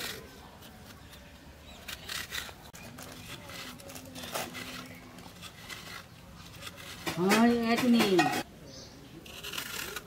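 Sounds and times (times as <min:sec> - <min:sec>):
knife scraping coconut flesh: 0:00.0 - 0:08.5, 0:09.2 - 0:10.0.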